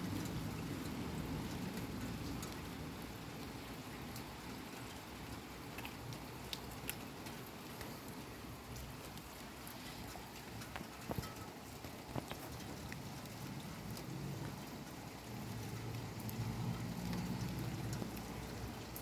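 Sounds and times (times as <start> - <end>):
heavy rain: 0.0 - 19.0
sharp drip ticks: 0.0 - 19.0.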